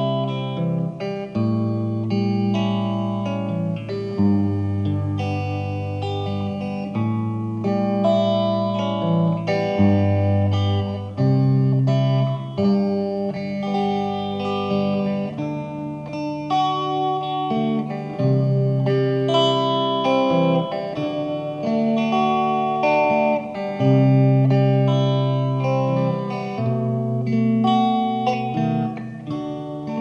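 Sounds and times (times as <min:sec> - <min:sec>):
guitar background music: 0:00.0 - 0:30.0.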